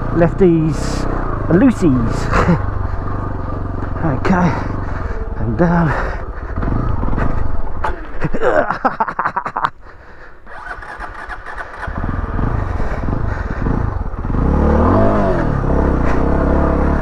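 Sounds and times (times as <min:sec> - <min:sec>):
motorcycle engine stuttering and revving: 0:00.0 - 0:09.2, 0:10.4 - 0:17.0.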